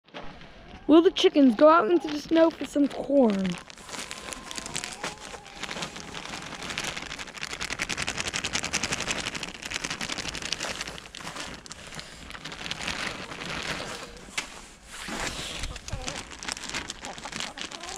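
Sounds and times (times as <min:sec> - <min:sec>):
corn kernels pattering onto snow: 0:01.6 - 0:17.9.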